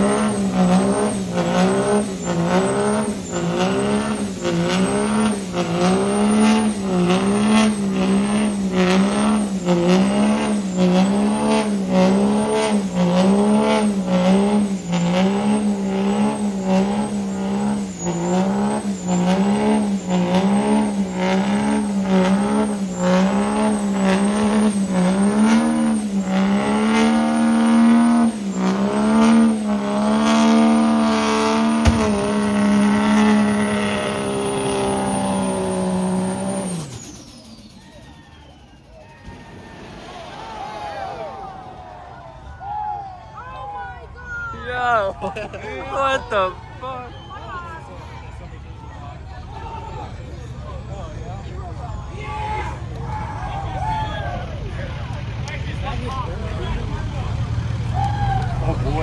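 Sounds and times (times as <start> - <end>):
diesel truck engine revving: 0.0 - 42.8, 44.9 - 59.0.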